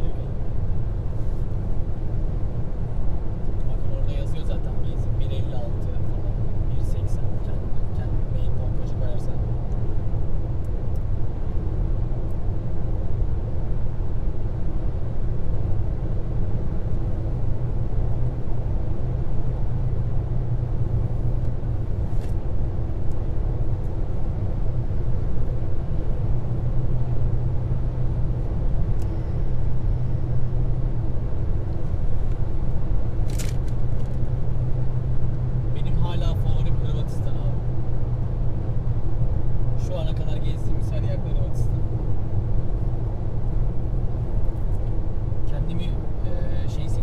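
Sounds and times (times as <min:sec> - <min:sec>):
car engine and road drone: 0:00.0 - 0:47.0.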